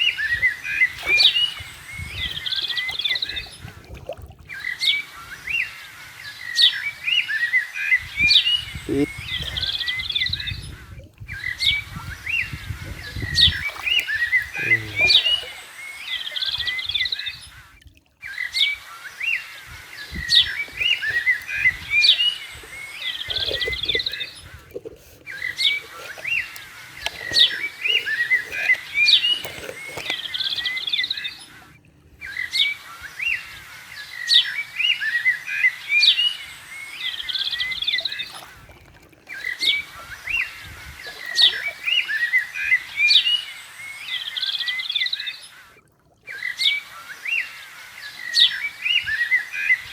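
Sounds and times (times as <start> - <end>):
birds chirping and calling: 0.0 - 49.9.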